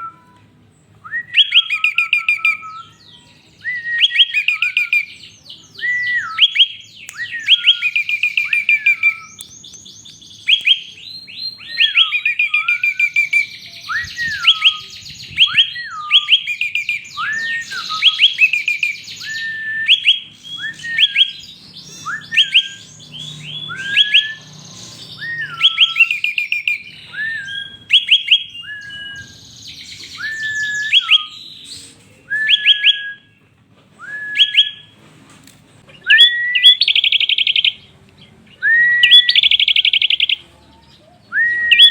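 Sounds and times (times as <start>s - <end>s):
bird singing: 0.0s - 34.9s, 35.9s - 41.9s.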